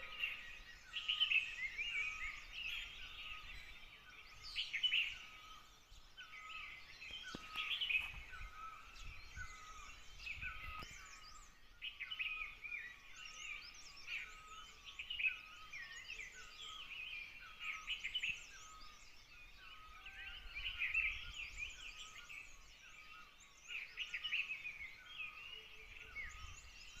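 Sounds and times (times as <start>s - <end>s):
flock of birds chirping: 0.0s - 27.0s.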